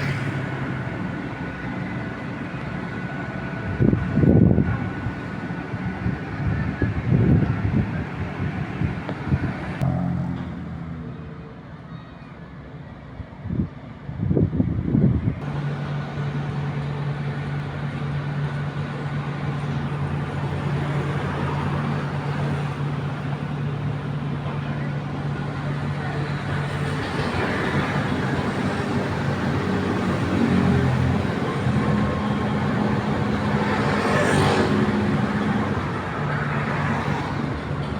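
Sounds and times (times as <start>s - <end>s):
wide rumbling noise: 0.0s - 11.9s, 12.5s - 37.9s
heavy machine engine hum: 0.0s - 14.1s, 15.2s - 37.9s.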